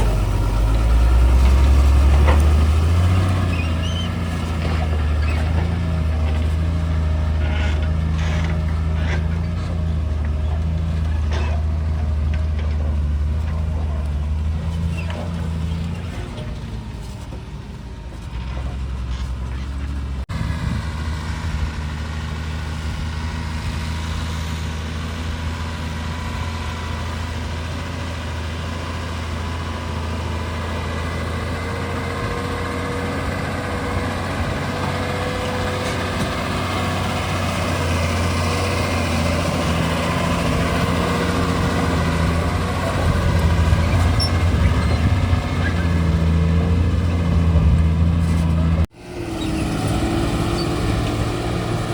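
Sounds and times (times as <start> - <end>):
heavy diesel engine droning: 0.0 - 51.9.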